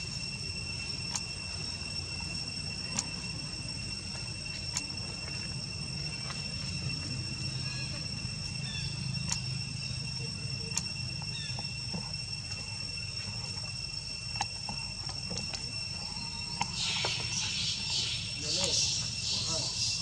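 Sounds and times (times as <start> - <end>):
insects chirring: 0.0 - 20.0
faint clicks and chirps: 1.0 - 3.4, 4.1 - 6.8, 8.3 - 20.0.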